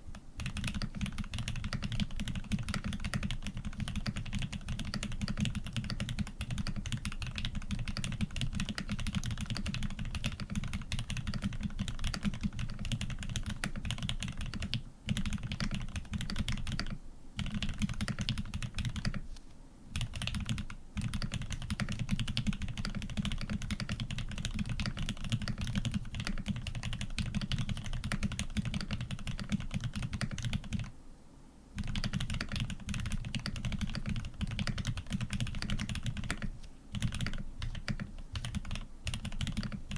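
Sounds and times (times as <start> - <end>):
mechanical keyboard typing: 0.4 - 19.2, 20.0 - 30.9, 31.8 - 39.9.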